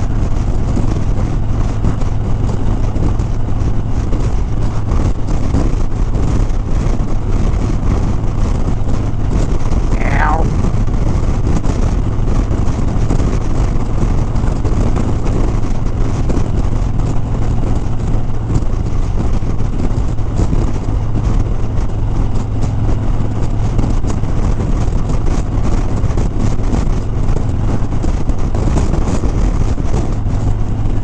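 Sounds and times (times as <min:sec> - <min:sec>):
motorcycle engine running: 0:00.0 - 0:31.0
wind rushing on microphone: 0:00.0 - 0:31.0.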